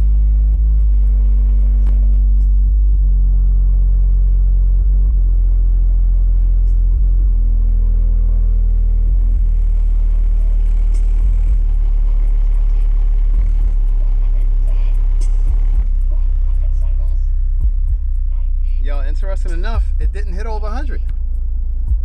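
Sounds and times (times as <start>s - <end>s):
loud bass test tone: 0.0s - 22.0s.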